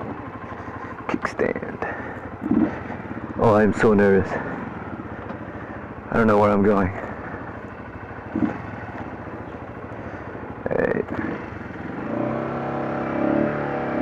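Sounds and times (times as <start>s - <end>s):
motorcycle engine idling: 0.0s - 14.0s
motorcycle engine revving: 0.0s - 14.0s.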